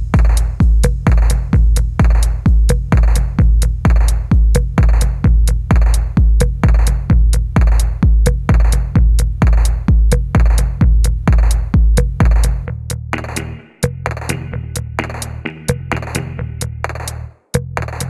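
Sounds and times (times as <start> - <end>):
electronic dance music: 0.0 - 17.2.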